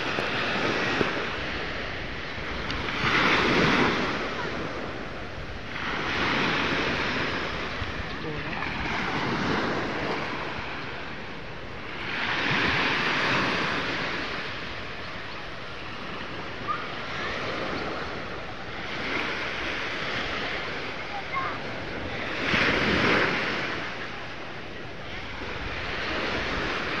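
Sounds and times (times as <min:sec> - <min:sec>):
small waves washing on beach: 0:00.0 - 0:27.0.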